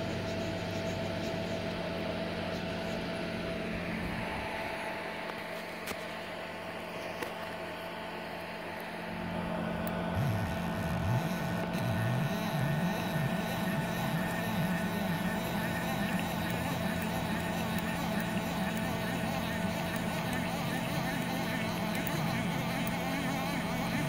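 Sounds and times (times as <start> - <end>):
electrical hum: 0.0 - 24.0
low wavering motor tone: 0.0 - 24.0
stepper motor tones: 0.0 - 24.0.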